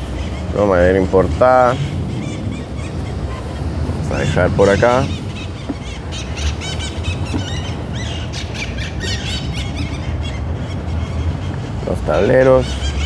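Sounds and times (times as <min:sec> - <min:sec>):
low rumble: 0:00.0 - 0:11.5
birds chirping: 0:00.0 - 0:13.0.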